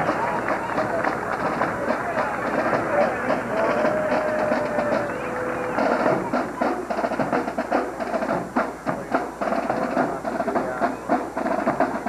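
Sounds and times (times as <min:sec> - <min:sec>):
band playing: 0:00.0 - 0:12.0
drums playing rhythmic cadence: 0:00.0 - 0:12.0.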